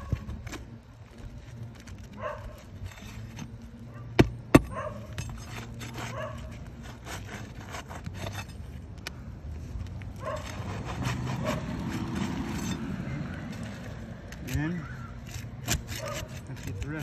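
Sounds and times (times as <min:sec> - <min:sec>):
pry bar scraping shingles: 0:00.0 - 0:17.0.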